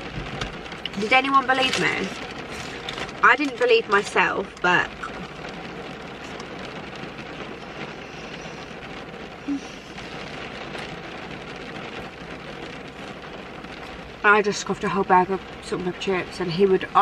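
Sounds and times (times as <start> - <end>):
rain on a car: 0.0 - 17.0.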